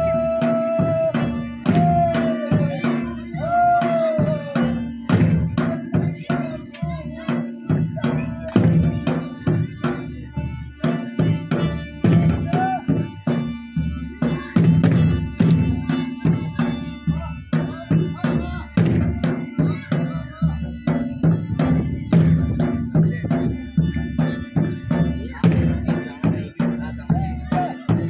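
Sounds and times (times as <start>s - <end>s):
drum beating driving rhythm: 0.0s - 28.0s
high melody line: 0.0s - 28.0s.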